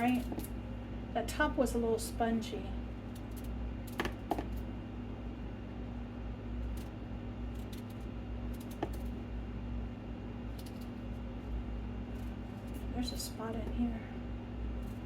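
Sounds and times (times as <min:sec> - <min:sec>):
low appliance hum: 0:00.0 - 0:15.0.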